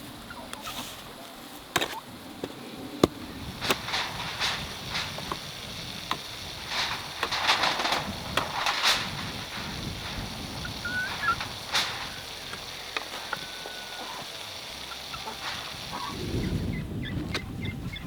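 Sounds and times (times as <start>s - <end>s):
scraping and rustling: 0.6s - 16.3s.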